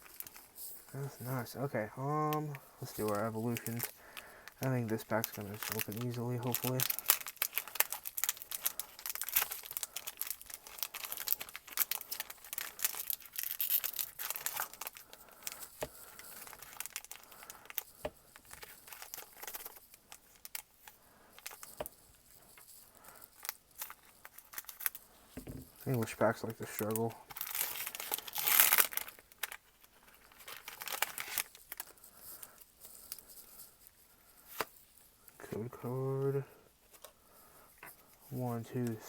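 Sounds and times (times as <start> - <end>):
foil wrapper crinkling and tearing: 0.0 - 36.1.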